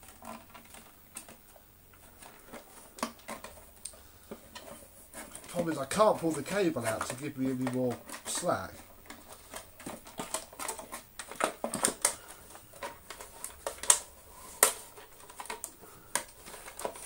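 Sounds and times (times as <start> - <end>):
plastic parts clicking and knocking: 0.0 - 17.0.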